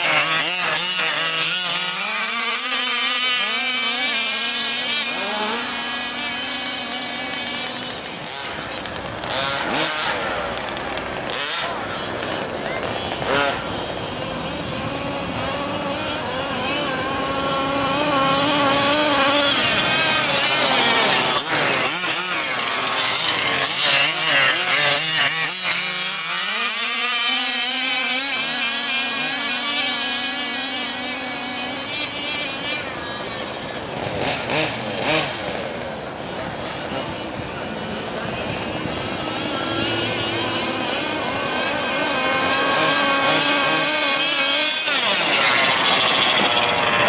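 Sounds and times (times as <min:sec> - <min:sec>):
small two-stroke engine revving: 0:00.0 - 0:47.0.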